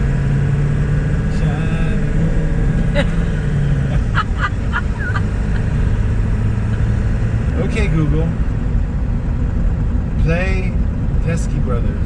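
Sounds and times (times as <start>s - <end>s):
road and engine drone in cab: 0.0s - 12.0s.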